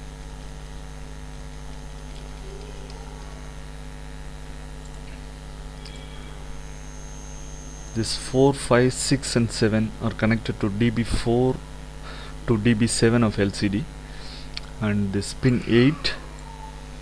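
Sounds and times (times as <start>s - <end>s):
electrical mains hum: 0.0s - 17.0s
faint high whine: 0.0s - 17.0s.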